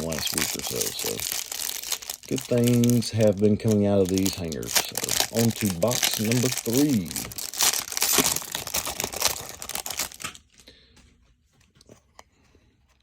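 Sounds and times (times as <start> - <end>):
packaging tearing and crinkling: 0.0 - 10.6.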